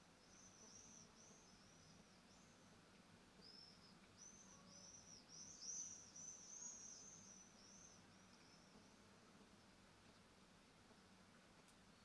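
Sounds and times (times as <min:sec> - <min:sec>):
small bird chirping: 0:00.0 - 0:10.3
faint low hum: 0:00.0 - 0:12.0.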